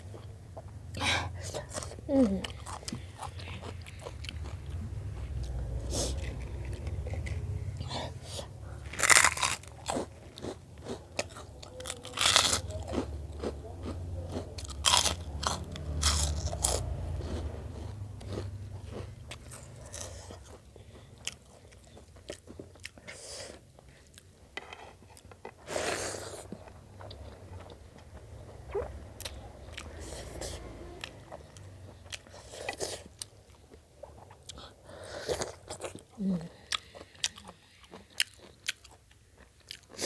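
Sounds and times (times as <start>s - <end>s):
person crunching and chewing food: 0.0s - 40.0s.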